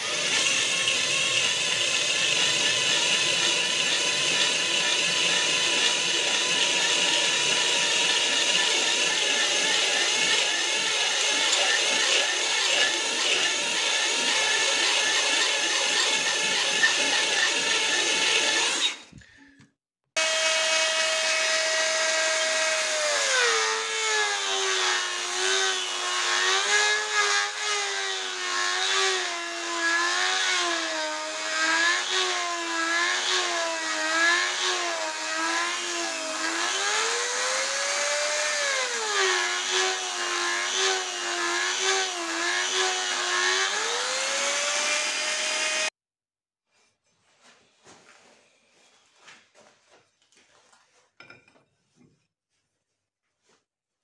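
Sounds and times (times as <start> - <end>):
rotary tool grinding steel: 0.0 - 19.3, 20.2 - 45.9.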